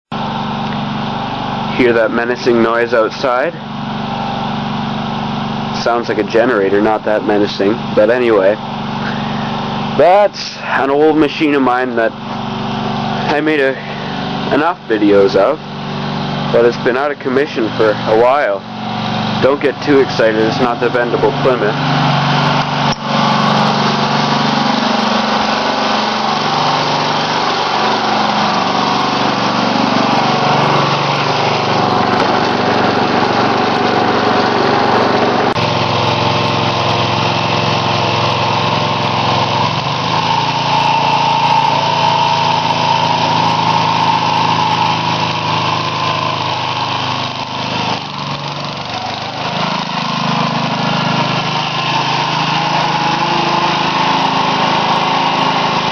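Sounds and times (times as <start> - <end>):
lawn tractor engine running: 0.1 - 55.9.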